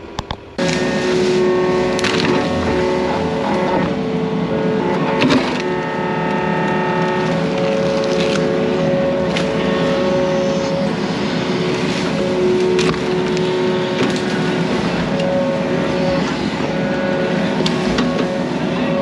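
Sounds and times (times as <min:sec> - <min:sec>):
hydraulic whine: 0:00.0 - 0:19.0
diesel engine running: 0:00.6 - 0:19.0.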